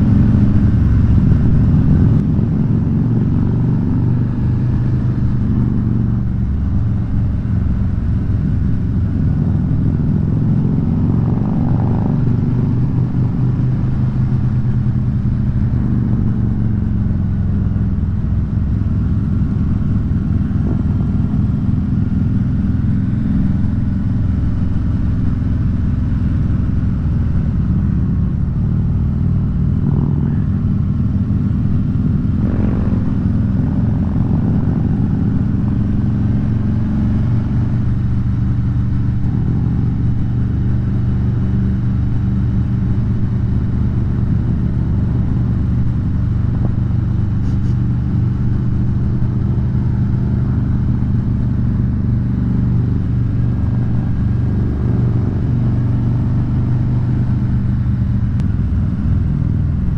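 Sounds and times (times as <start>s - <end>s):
motorcycles riding in a group: 0.0s - 59.9s.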